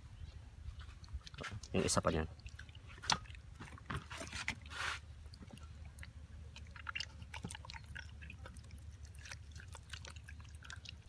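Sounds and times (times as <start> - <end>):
wet squelching of chicken: 0.9 - 11.0.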